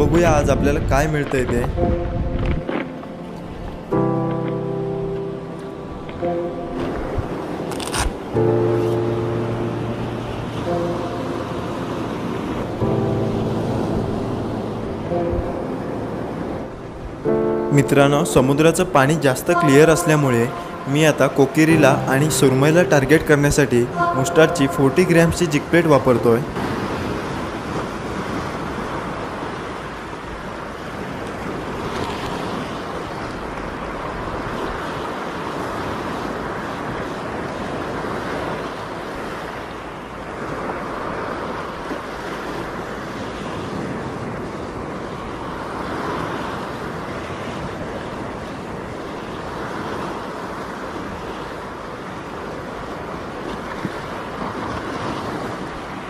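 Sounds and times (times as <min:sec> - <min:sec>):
sea waves breaking over rocks: 0:00.0 - 0:56.0.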